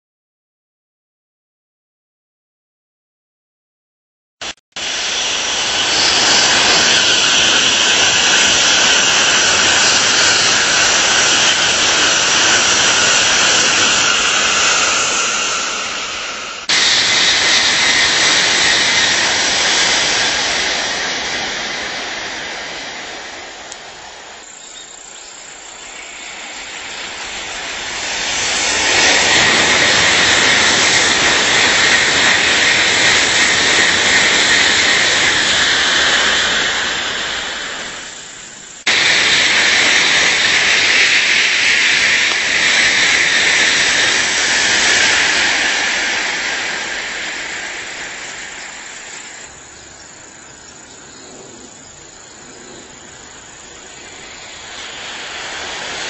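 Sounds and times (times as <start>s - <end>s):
high-speed train rushing past: 4.4s - 56.0s.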